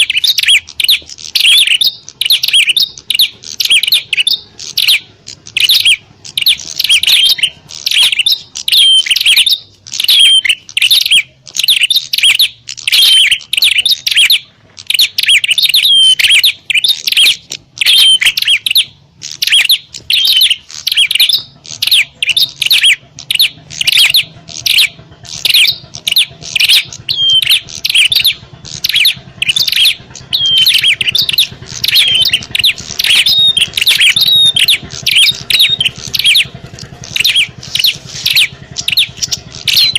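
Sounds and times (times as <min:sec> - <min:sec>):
birds chirping sharply: 0:00.0 - 0:39.9.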